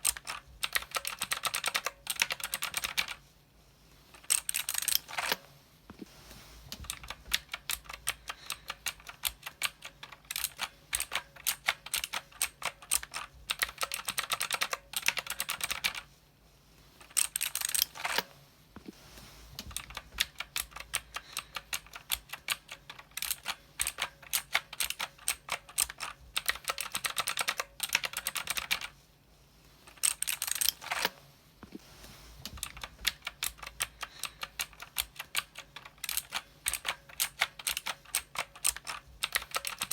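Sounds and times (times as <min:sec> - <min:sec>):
mechanical keyboard typing: 0:00.0 - 0:03.2, 0:04.2 - 0:05.4, 0:06.8 - 0:16.1, 0:17.0 - 0:18.3, 0:19.6 - 0:29.0, 0:29.9 - 0:31.2, 0:32.5 - 0:39.9.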